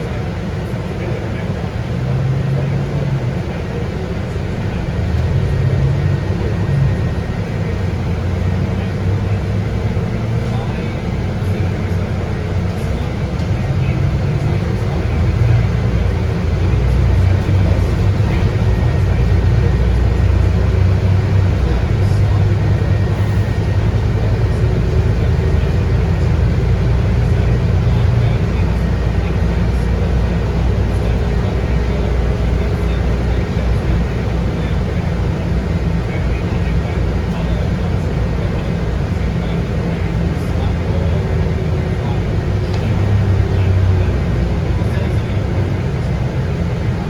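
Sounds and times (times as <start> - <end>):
bus diesel engine rumble: 0.0 - 47.0
road noise: 0.0 - 47.0.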